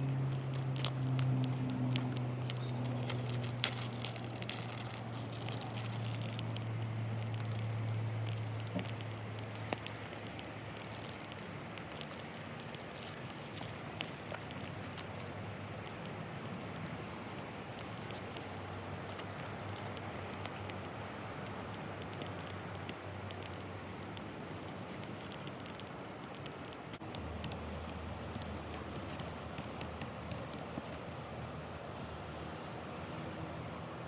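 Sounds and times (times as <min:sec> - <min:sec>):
wood fire crackling: 0:00.0 - 0:32.4.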